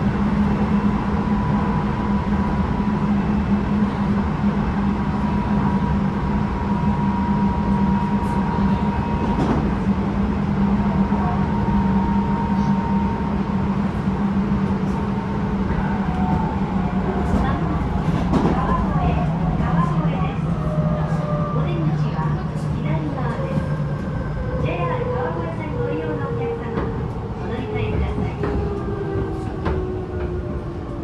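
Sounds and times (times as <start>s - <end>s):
train rolling rumble: 0.0s - 31.0s.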